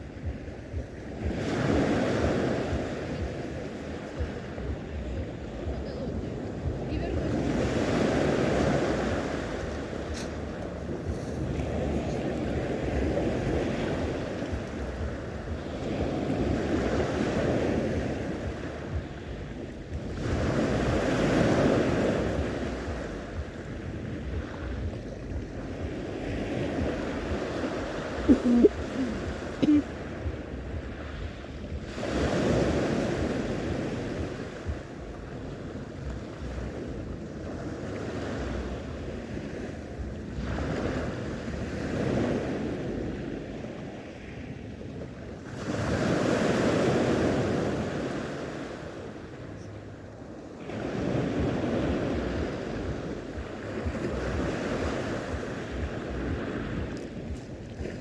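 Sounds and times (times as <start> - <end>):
sea waves washing in: 0.0 - 58.0
wind rumbling on microphone: 0.0 - 58.0.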